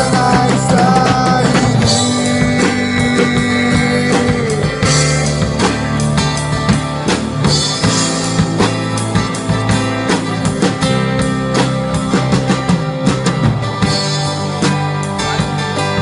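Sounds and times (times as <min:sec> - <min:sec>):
bass: 0:00.0 - 0:16.0
drum kit: 0:00.0 - 0:16.0
guitar: 0:00.0 - 0:16.0.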